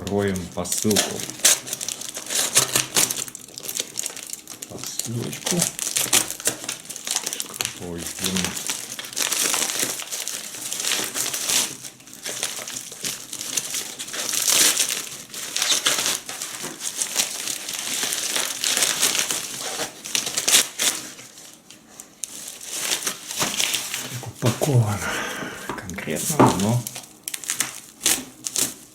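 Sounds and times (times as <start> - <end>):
packaging crinkling and rustling: 0.0 - 28.9.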